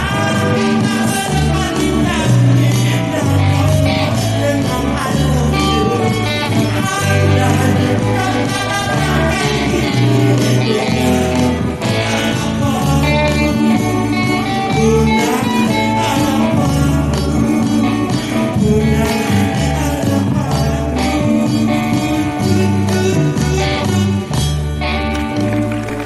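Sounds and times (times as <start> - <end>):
live pop band: 0.0 - 26.0
person singing: 0.0 - 26.0.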